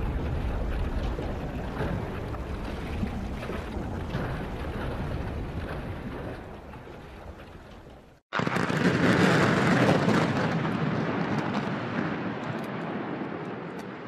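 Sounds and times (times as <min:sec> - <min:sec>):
demolition rumble: 0:00.0 - 0:13.2.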